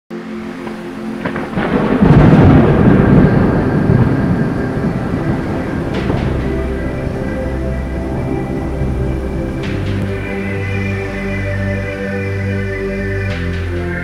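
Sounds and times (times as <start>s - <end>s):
rain hissing: 0.1s - 14.0s
thunder rolling: 0.4s - 12.4s.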